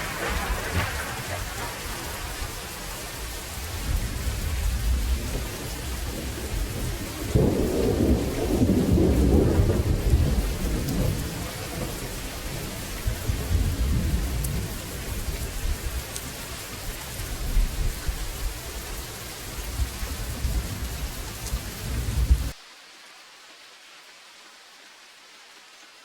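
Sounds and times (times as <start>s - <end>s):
thunder rumbling: 0.0s - 22.6s
thunderclap: 0.0s - 22.6s
steady rainfall: 0.0s - 26.0s.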